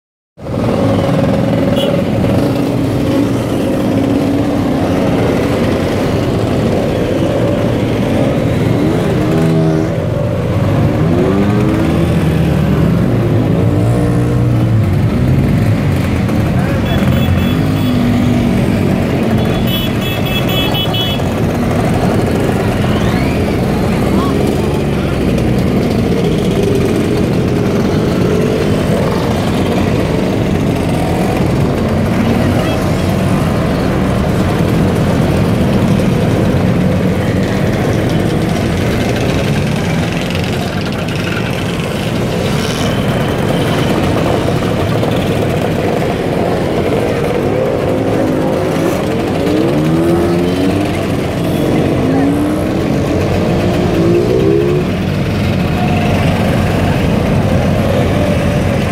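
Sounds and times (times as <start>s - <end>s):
scooters and motorcycles passing: 0.4s - 58.9s.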